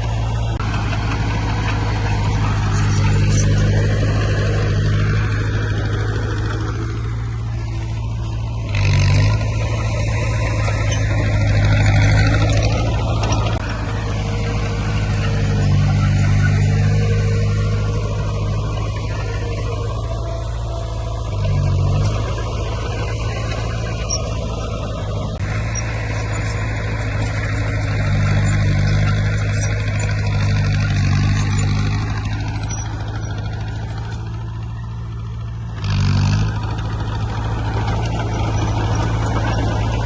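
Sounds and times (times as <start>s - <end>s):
heavy diesel engine under load: 0.0s - 40.0s.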